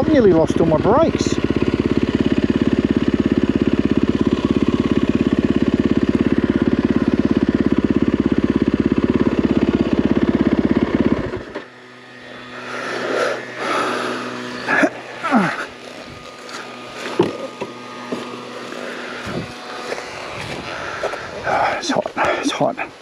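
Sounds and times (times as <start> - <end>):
dirt bike engine idling: 0.0 - 23.0.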